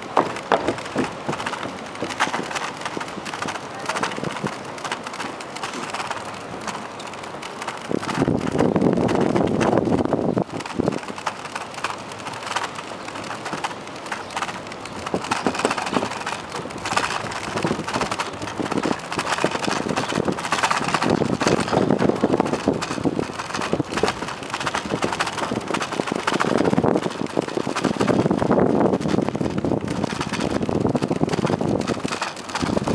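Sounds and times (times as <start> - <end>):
bicycle rattling over wooden planks: 0.0 - 32.9
wind buffeting microphone: 0.0 - 32.9.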